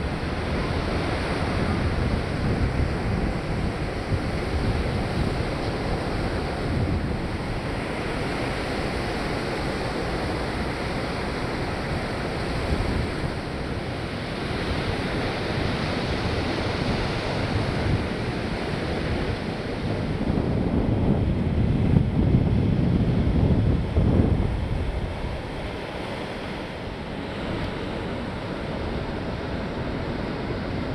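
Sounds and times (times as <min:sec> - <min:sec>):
surf breaking on beach: 0:00.0 - 0:30.9
wind buffeting microphone: 0:00.0 - 0:30.9.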